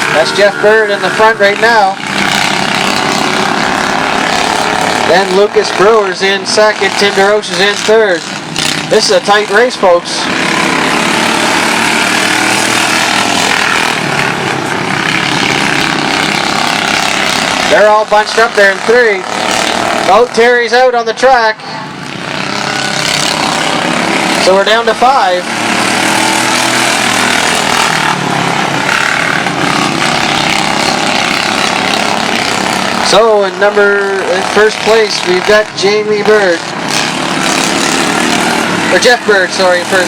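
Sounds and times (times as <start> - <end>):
lawn mower engines droning: 0.0 - 40.0.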